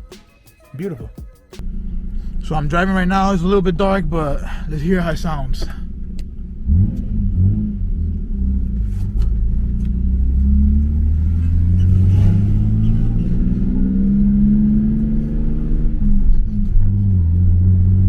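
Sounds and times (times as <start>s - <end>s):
car exhaust drone accelerating: 1.6s - 18.0s.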